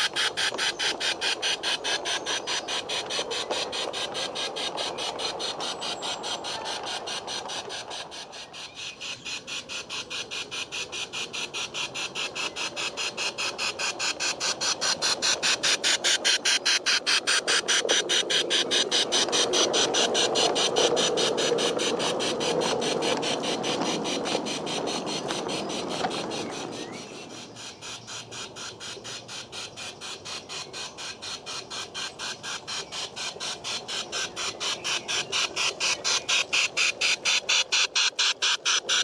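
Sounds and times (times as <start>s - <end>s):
model train ticking: 0.0s - 39.0s
rolling rumble of wheels: 0.0s - 39.0s.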